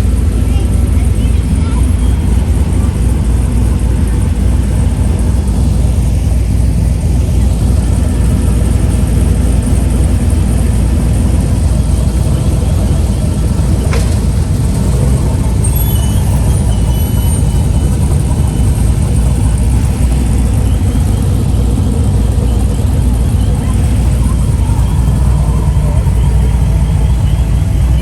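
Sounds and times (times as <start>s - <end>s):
car engines rumbling: 0.0s - 28.0s.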